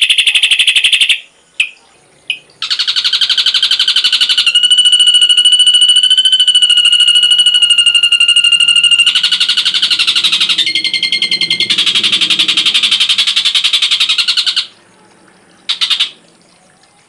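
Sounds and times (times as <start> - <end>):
bird singing rapid trills: 0.0 - 17.0.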